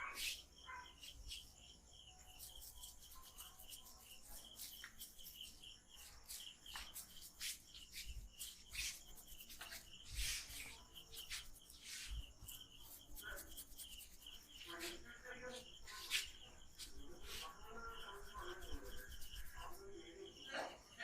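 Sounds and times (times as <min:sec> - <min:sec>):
high chirping: 0:00.0 - 0:20.5
hands rubbing oiled scalp: 0:02.2 - 0:20.0.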